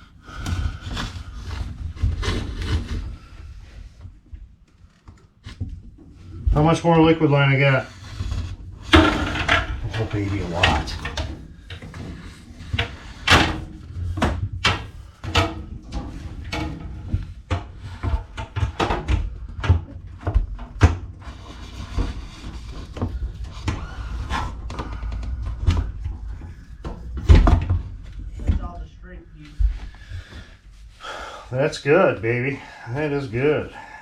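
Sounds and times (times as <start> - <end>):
copper line knocking and rubbing: 0.2 - 6.8, 7.8 - 28.8.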